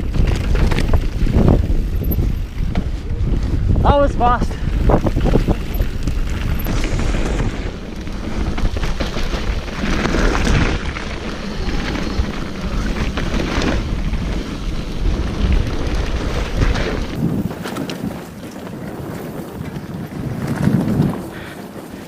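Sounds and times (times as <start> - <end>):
bike rattling and knocking: 0.0 - 3.8, 4.5 - 22.0
wind buffeting microphone: 0.0 - 22.0.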